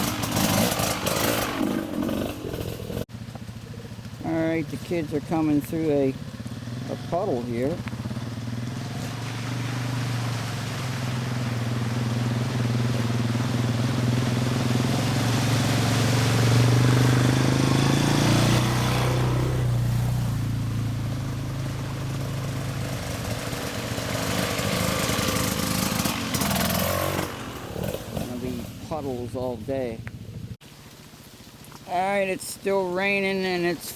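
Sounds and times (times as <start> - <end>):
water splashing: 0.0 - 29.7
off-road vehicle engines: 0.0 - 33.9.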